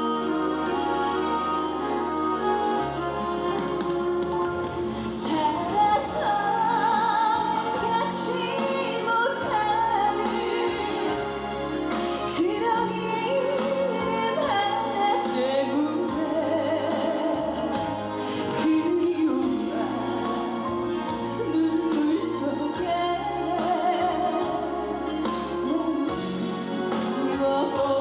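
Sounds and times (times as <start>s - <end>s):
backing track: 0.0s - 28.0s
ballad melody with vibrato: 0.0s - 28.0s.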